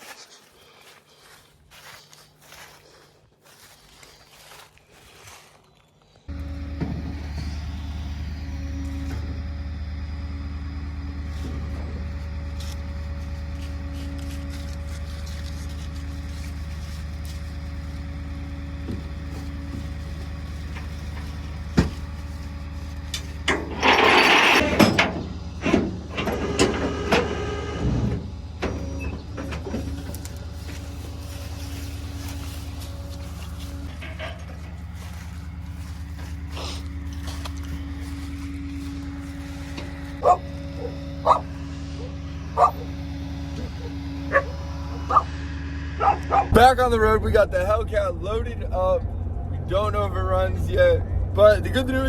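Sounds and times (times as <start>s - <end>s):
vehicle engine droning: 6.2s - 52.0s.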